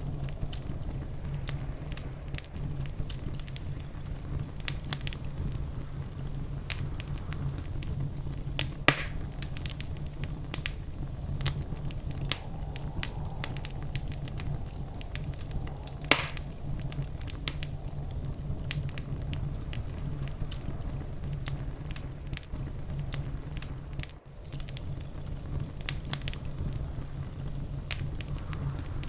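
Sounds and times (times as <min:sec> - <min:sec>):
fireplace fire crackling: 0:00.0 - 0:29.0
sharp fire pops: 0:00.0 - 0:29.0.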